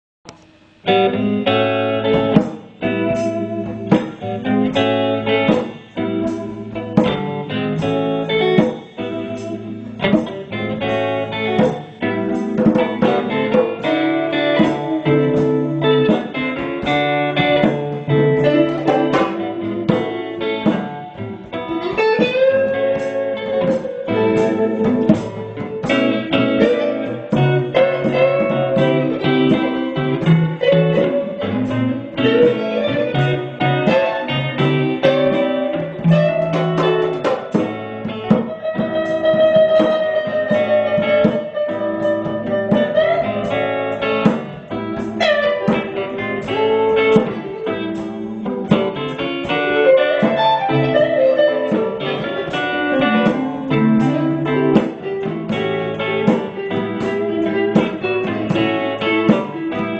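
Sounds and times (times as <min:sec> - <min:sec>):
electric guitars playing: 0:00.3 - 0:59.9
hand drum beat: 0:00.3 - 0:59.9.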